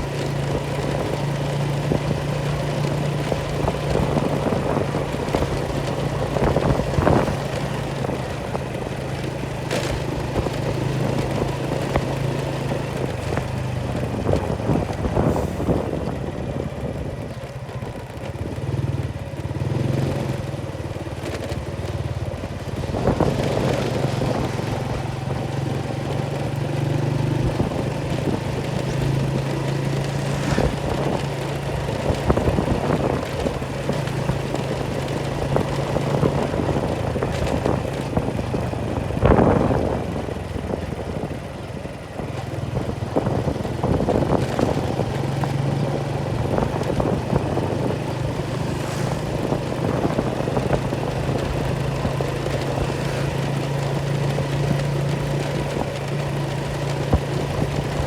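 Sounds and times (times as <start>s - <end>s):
engine droning: 0.0s - 17.0s, 22.4s - 58.0s.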